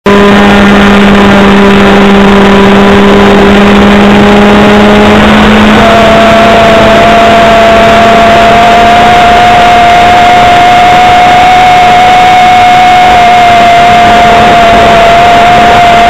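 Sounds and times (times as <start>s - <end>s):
model aircraft engine drone: 0.1s - 16.0s.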